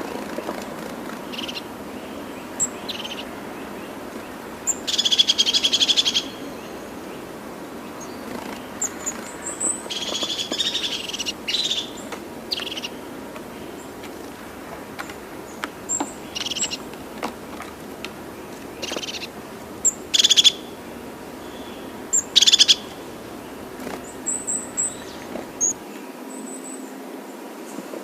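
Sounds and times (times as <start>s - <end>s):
bird trills: 0.0s - 25.8s
high bird chirps: 1.1s - 25.8s.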